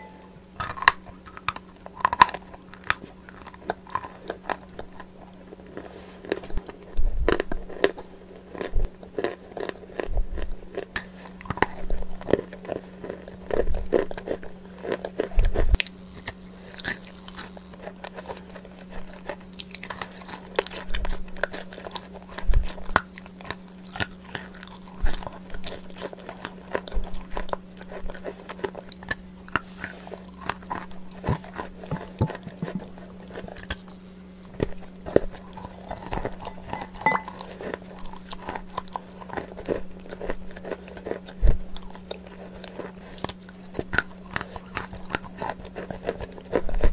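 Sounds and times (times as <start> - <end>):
crunchy chewing: 0.0 - 46.9
steady low hum: 0.0 - 46.9.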